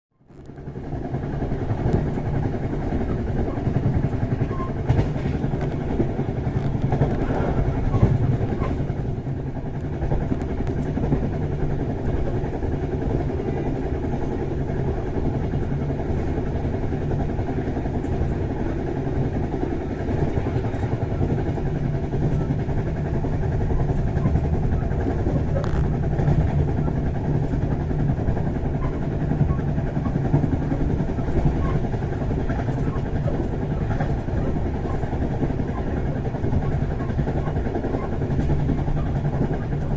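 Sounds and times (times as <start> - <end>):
train rumble and wheels on rails: 0.1 - 39.9.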